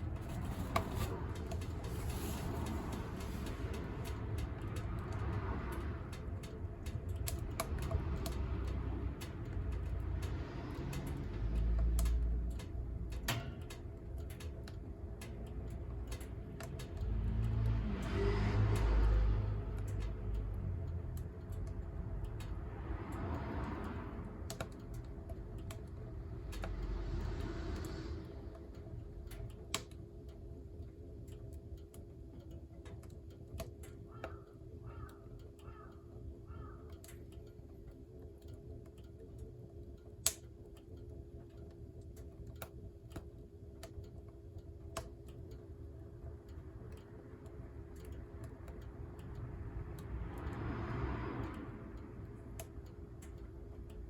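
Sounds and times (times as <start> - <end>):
wood fire crackling: 0.0 - 50.8.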